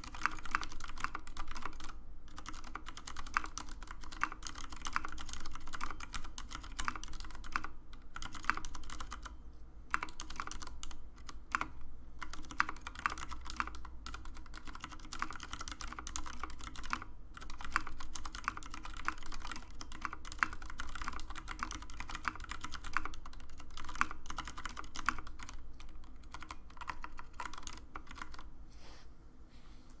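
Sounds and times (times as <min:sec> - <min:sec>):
mechanical keyboard typing: 0:00.0 - 0:28.5.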